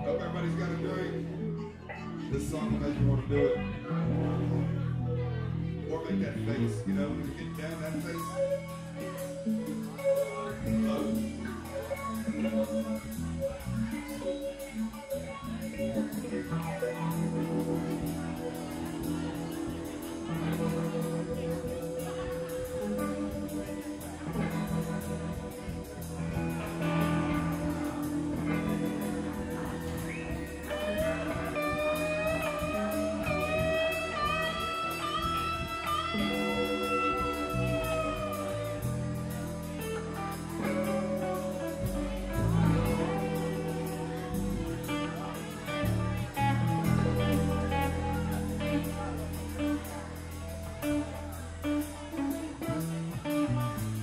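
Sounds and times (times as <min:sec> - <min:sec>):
guitar lead note bending: 0:00.0 - 0:54.0
live blues rock band: 0:00.0 - 0:54.0.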